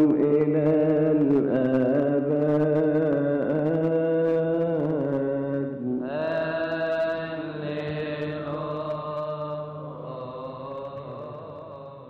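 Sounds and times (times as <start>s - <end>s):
man chanting a hymn: 0.0s - 12.0s.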